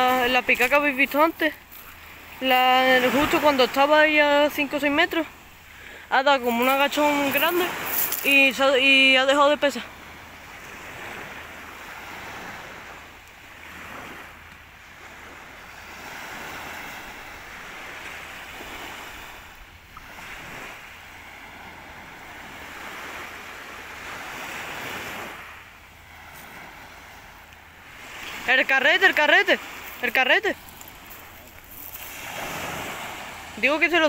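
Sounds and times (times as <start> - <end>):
waves washing on pebble shore: 0.0 - 34.0.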